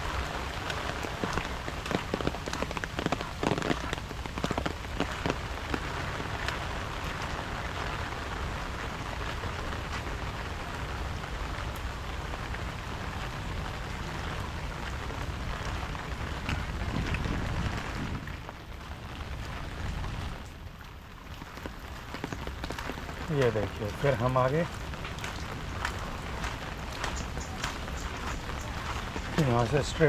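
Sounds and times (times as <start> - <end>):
close raindrops ticking: 0.0 - 30.0
steady rain hiss: 0.0 - 30.0.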